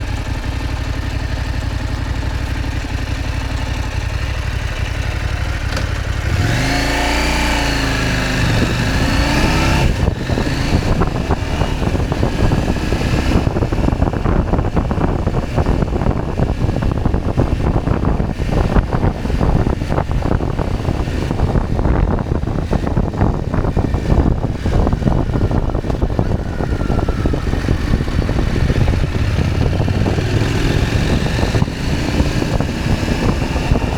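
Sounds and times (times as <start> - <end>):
motorcycle engine idling and revving: 0.0 - 33.9
wind noise on microphone: 2.7 - 33.9.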